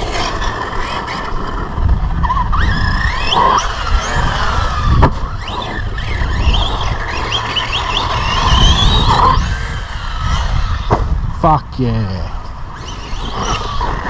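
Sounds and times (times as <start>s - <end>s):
electric motor whining: 0.0s - 11.4s, 12.0s - 14.0s.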